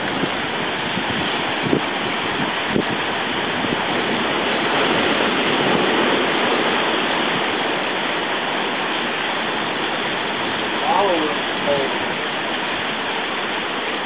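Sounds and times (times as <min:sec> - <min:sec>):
seawater rushing over rocks: 0:00.0 - 0:14.0.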